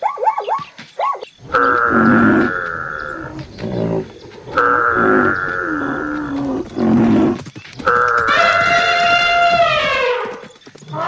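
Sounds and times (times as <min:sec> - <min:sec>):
elephant trumpeting: 0:01.4 - 0:11.0.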